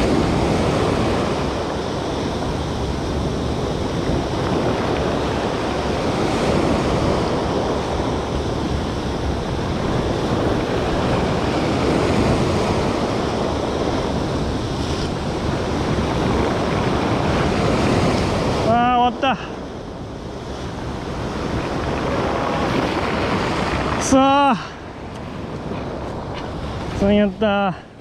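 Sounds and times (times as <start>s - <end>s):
sea surf breaking on rocks: 0.0s - 28.0s
wind rumbling on microphone: 0.0s - 28.0s.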